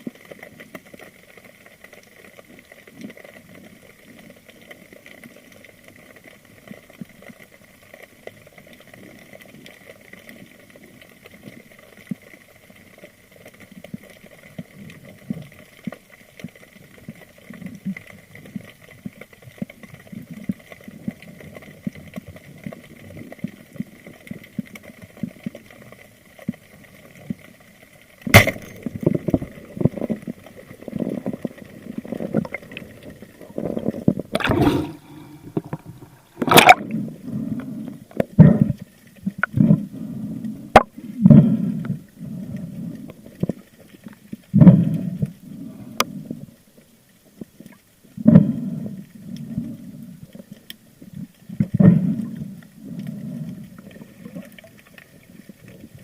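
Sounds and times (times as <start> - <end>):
underwater water rumble: 0.0 - 56.0.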